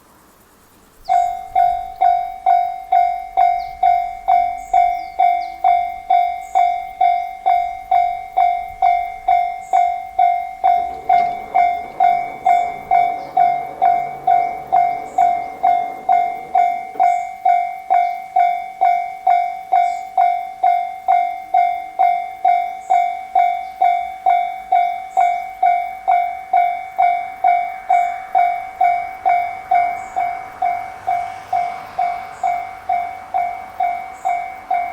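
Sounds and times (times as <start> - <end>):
level crossing warning bell: 1.0 - 34.9.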